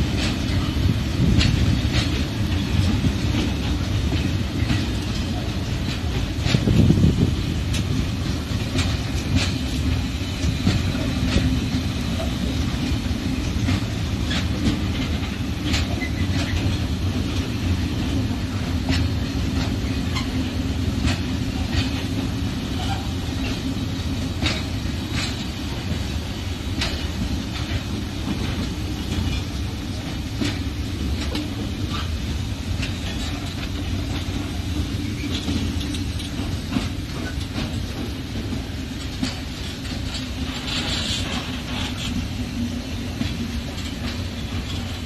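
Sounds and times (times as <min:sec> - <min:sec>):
train wheel clicks: 0:00.0 - 0:45.0
train wheels rumbling on rails: 0:00.0 - 0:45.0.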